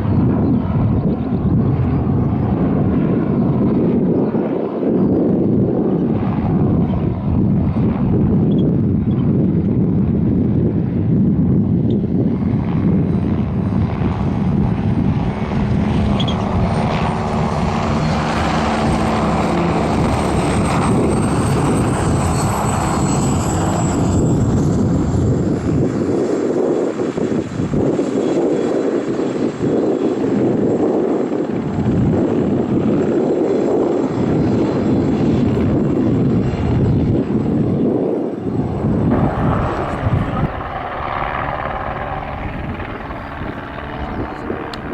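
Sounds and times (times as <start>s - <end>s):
helicopter rotor noise: 0.0s - 44.9s
high turbine whine: 0.0s - 44.9s.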